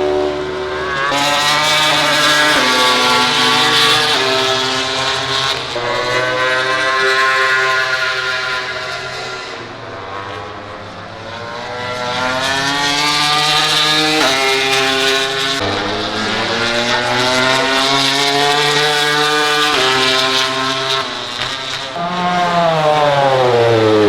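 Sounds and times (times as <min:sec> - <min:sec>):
motorcycle accelerating with upshifts: 0:00.0 - 0:24.0
racing motorcycles at full throttle: 0:00.0 - 0:24.0.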